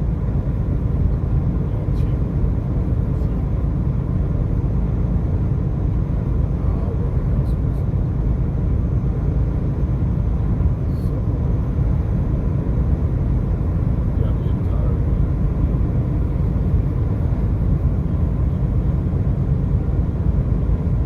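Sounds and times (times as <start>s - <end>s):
vehicle road and engine noise: 0.0s - 21.0s.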